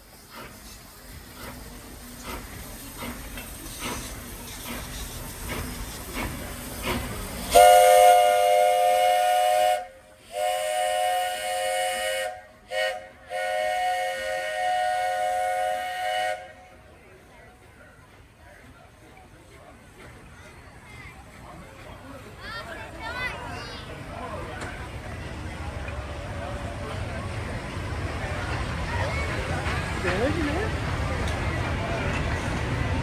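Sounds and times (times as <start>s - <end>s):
steam locomotive exhaust chuffing: 0.0s - 22.3s, 24.4s - 33.0s.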